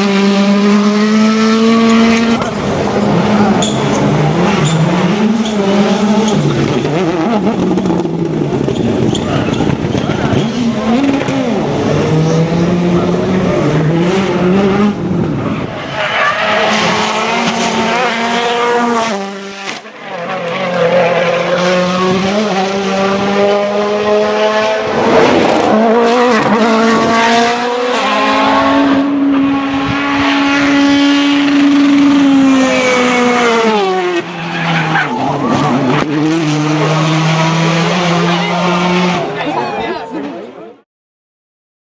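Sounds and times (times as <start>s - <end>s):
rally car engines revving: 0.0s - 40.7s.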